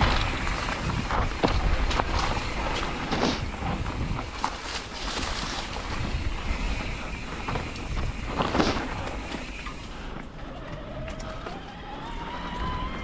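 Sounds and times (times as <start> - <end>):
bike tyres crunching on gravel: 0.0 - 13.0
wind buffeting microphone: 0.0 - 13.0.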